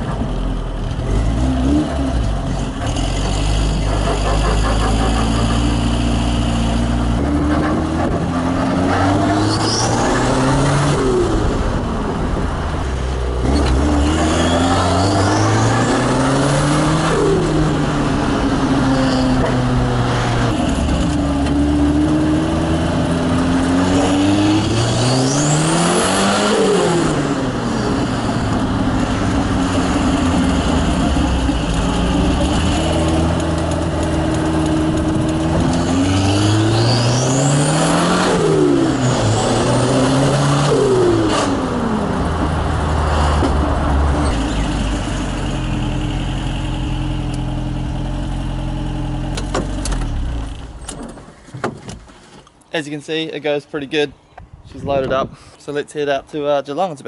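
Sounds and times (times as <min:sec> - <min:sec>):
engine accelerating hard: 0:00.0 - 0:50.8.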